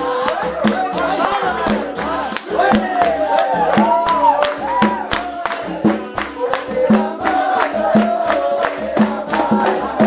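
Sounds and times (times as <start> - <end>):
group singing together: 0.0 - 10.0
percussion beat: 0.0 - 10.0.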